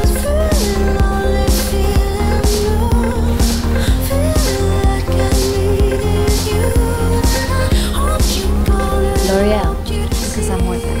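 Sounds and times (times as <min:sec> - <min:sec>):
upbeat pop music: 0:00.0 - 0:11.0.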